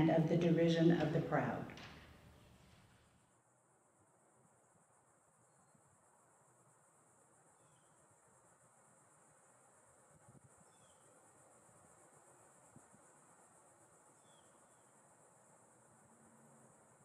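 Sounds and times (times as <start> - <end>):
high insect buzz: 3.2 - 17.0.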